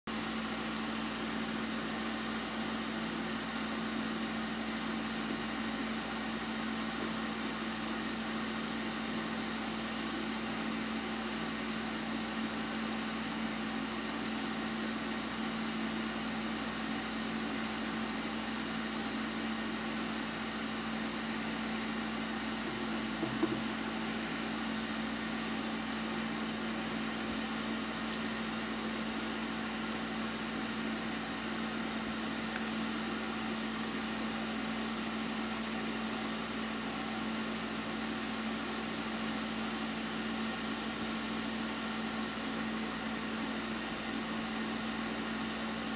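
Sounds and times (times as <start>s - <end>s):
steady machine hum: 0.1s - 45.9s.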